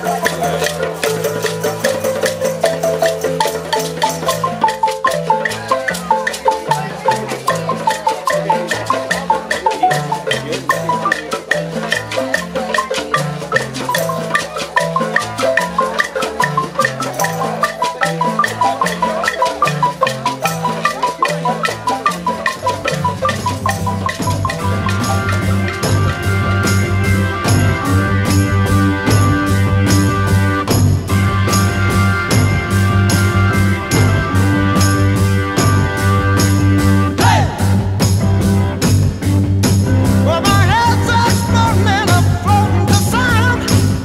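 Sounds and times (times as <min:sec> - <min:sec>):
marimba melody with bass line: 0:00.0 - 0:44.0.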